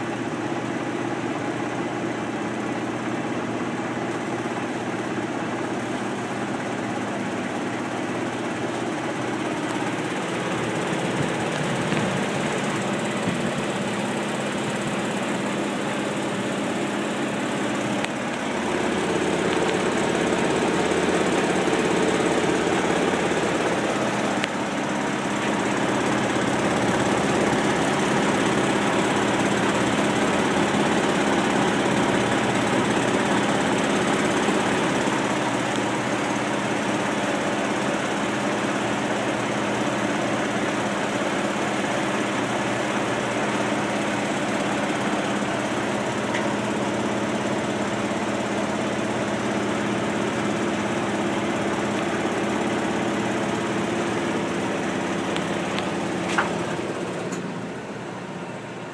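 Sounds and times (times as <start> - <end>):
washing machine spinning: 0.0 - 58.9.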